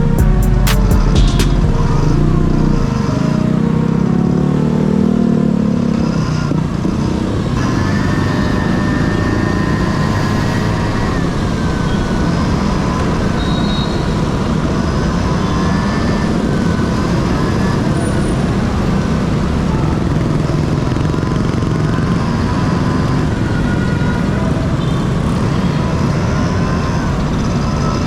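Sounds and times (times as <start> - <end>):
scooter engine revving: 0.0 - 28.0
road and wind noise: 1.6 - 28.0.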